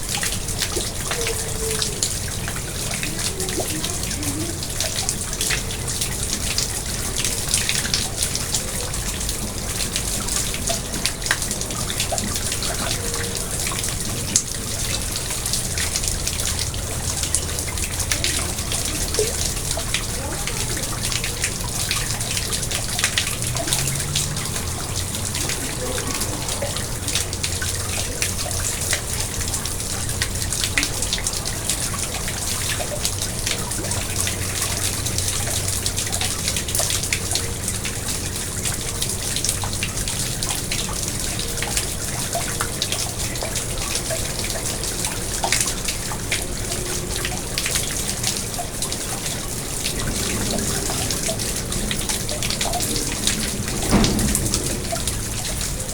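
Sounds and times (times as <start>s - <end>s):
pond water splashing and trickling: 0.0s - 55.9s.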